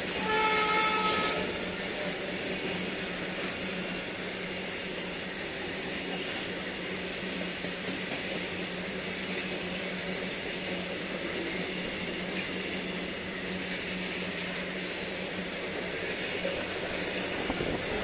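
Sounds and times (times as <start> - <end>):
train wheels rushing on rails: 0.0 - 18.0.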